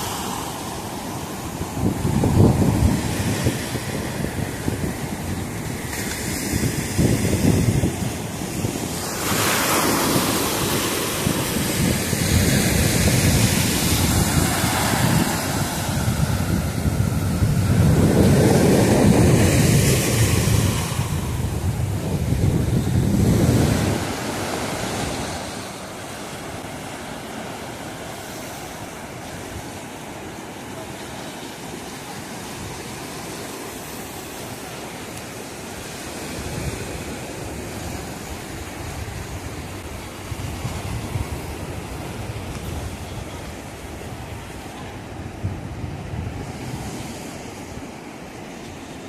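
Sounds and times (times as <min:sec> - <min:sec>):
wind buffeting microphone: 0:00.0 - 0:30.3, 0:35.8 - 0:48.5
sea surf breaking: 0:00.0 - 0:49.0.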